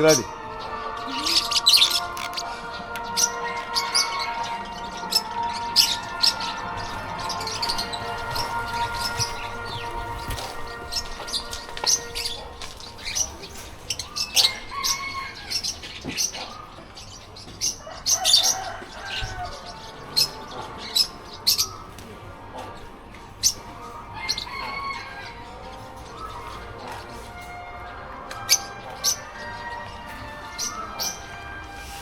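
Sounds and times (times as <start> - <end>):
birds chirping and squawking: 0.0 - 32.0.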